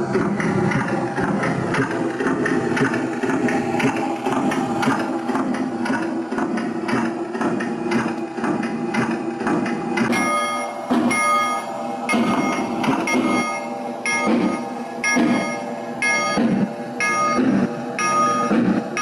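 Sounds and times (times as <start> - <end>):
model steam locomotive whirring: 0.0 - 19.0.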